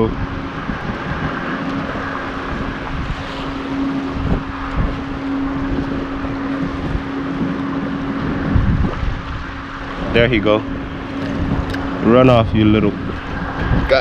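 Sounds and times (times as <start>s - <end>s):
engine hum: 0.0s - 14.0s
wind buffeting microphone: 0.0s - 14.0s.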